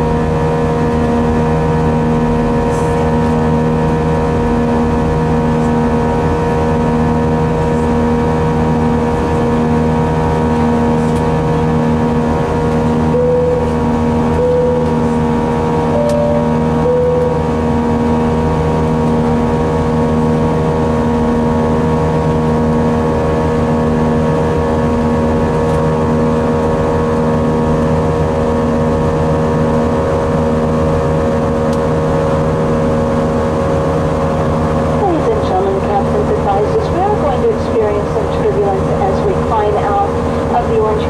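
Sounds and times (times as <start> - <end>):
jet engine drone in cabin: 0.0 - 41.0.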